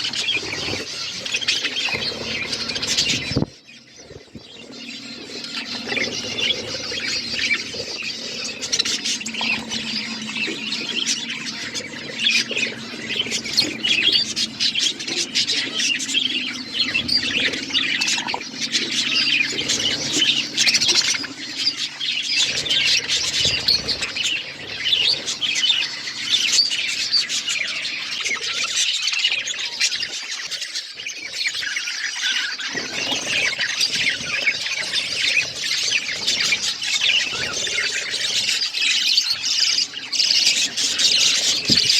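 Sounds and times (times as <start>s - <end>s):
budgies chirping: 0.0s - 41.9s.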